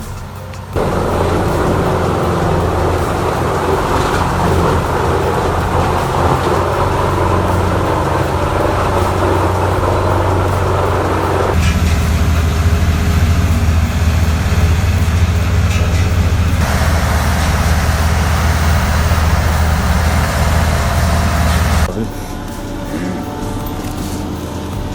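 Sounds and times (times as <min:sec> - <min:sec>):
heavy machine engine droning: 0:00.0 - 0:24.9.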